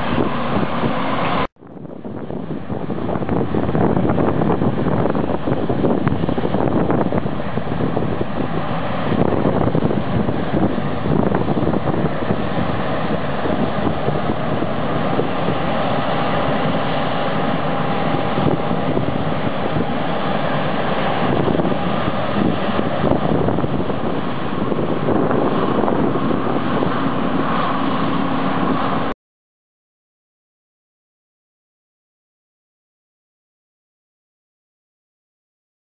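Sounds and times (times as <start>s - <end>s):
combine harvester running: 0.0s - 29.2s
wind buffeting microphone: 0.0s - 29.2s.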